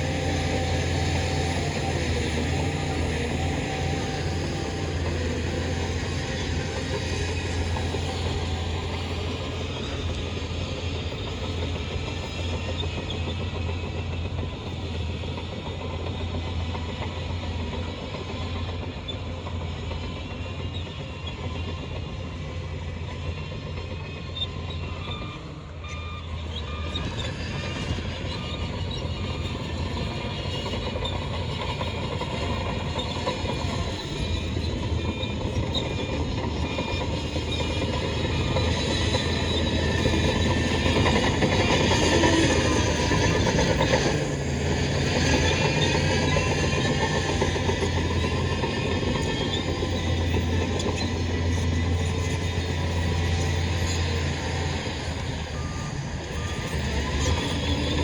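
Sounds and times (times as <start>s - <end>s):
bulldozer diesel engine running: 0.0s - 58.0s
steel tracks clattering: 0.0s - 58.0s.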